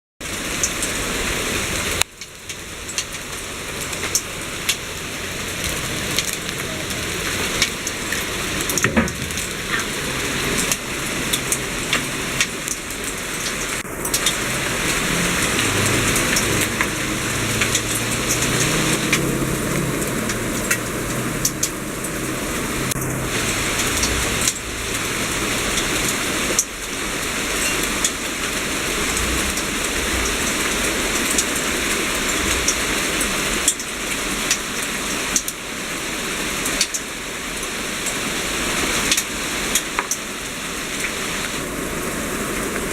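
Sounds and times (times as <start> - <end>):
hail clattering: 0.5 - 35.5.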